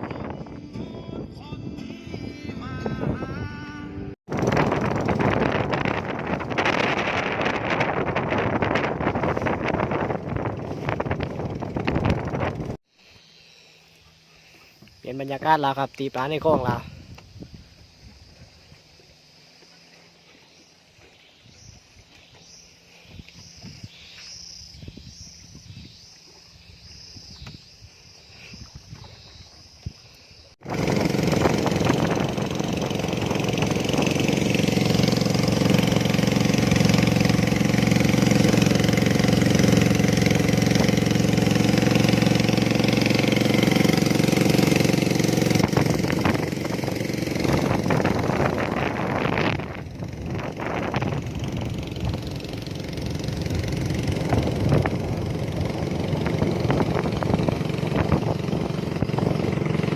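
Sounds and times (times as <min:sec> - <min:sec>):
boat engine running: 0:00.0 - 0:12.8, 0:13.6 - 0:30.0, 0:30.6 - 0:59.9.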